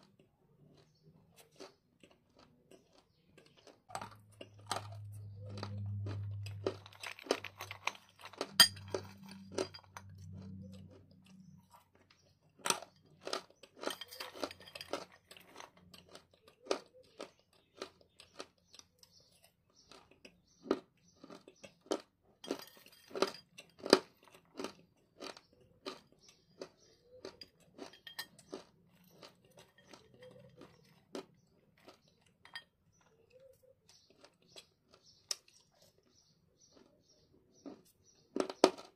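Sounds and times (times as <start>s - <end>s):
soft chewing: 0.0s - 38.9s
crunching hard chunks: 0.1s - 38.9s.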